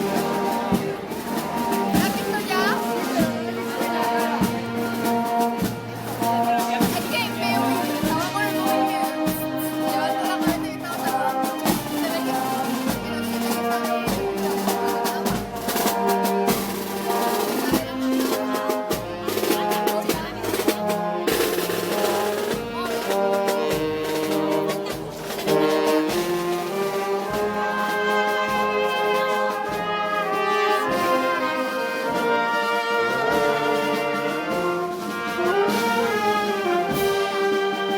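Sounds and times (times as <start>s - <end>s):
brass band playing a march: 0.0s - 37.9s.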